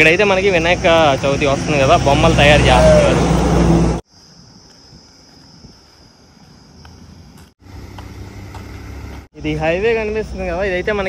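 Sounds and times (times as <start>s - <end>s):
vehicle engine rumble: 0.0s - 4.1s, 5.8s - 11.0s.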